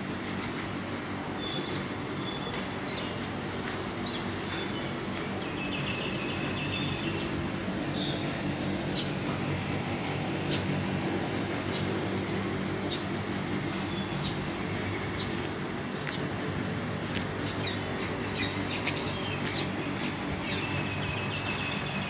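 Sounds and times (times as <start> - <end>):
low mechanical hum: 0.0 - 22.0
birds chirping: 1.3 - 22.0.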